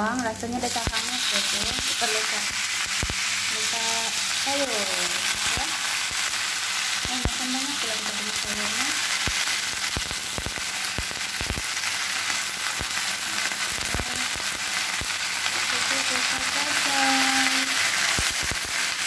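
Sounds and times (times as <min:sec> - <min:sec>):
spinach sizzling in a wok: 0:00.0 - 0:19.0.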